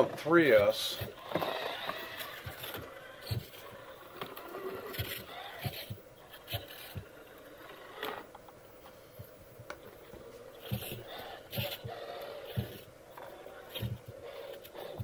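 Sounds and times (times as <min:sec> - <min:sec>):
toy crawler drivetrain noise: 0:00.0 - 0:08.3, 0:10.6 - 0:15.0.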